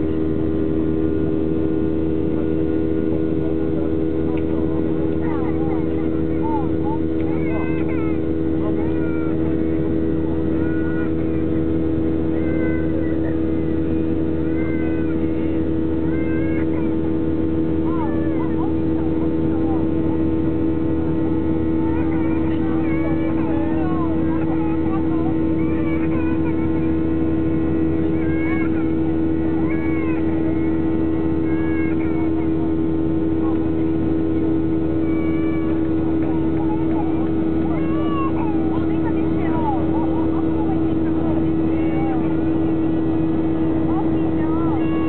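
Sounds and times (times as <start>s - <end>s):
airflow rushing: 0.0s - 45.0s
faint voices: 0.0s - 45.0s
jet engines droning: 0.0s - 45.0s.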